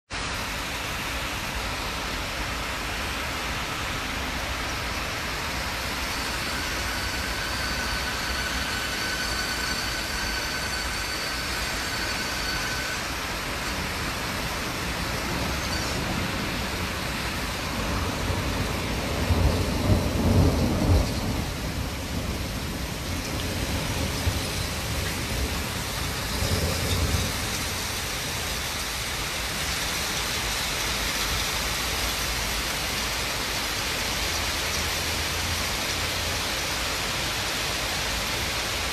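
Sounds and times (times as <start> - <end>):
heavy rain pouring: 0.1 - 38.9
wind: 0.1 - 38.9.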